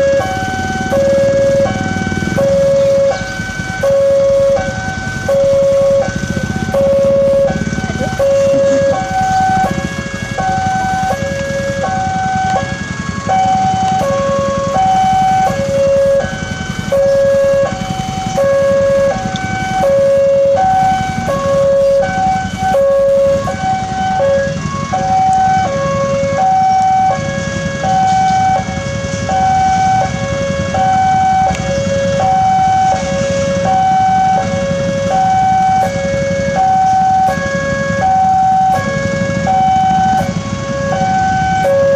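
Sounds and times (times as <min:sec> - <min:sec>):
idling engines rumbling: 0:00.0 - 0:41.9
level crossing two-tone alarm: 0:00.0 - 0:41.9.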